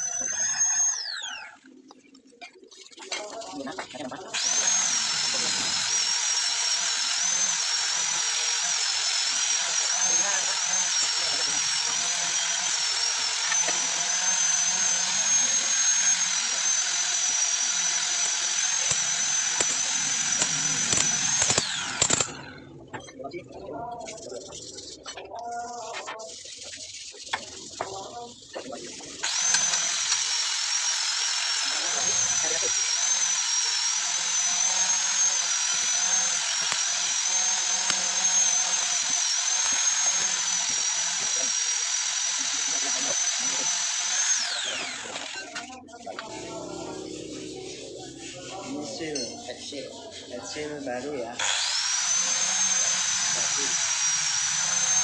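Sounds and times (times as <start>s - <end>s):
cordless drill whining and grinding metal: 0.0s - 1.7s, 3.8s - 23.2s, 27.7s - 47.9s, 50.4s - 55.0s.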